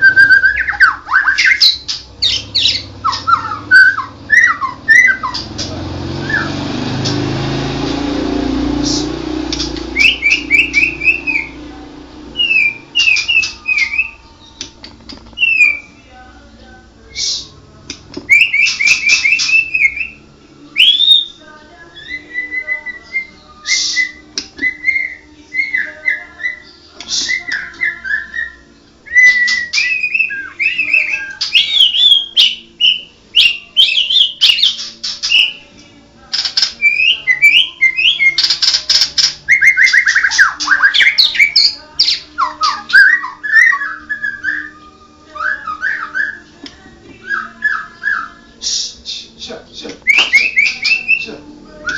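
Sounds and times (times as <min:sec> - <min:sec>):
bird singing: 0:00.0 - 0:51.9.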